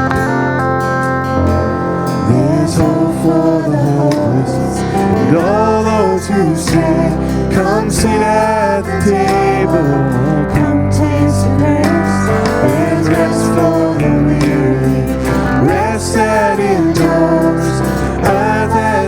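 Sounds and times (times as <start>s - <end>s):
strummed acoustic guitar: 0.0s - 19.0s
sliding melody line: 1.2s - 19.0s.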